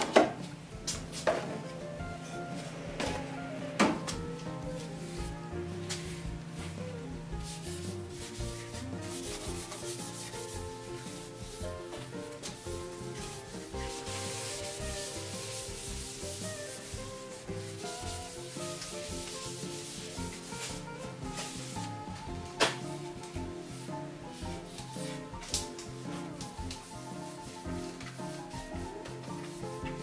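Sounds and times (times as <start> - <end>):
background music: 0.0 - 30.0
cloth rag wiping wood boards: 0.4 - 30.0.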